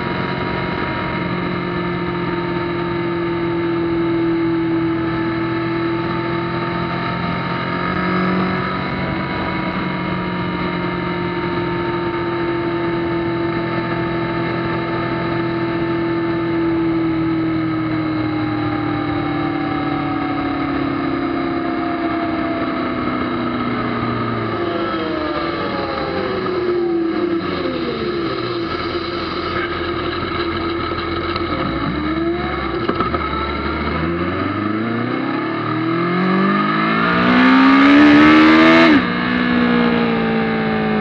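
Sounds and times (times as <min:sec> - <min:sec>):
motorcycle engine cruising: 0:00.0 - 0:41.0
road noise: 0:00.0 - 0:41.0.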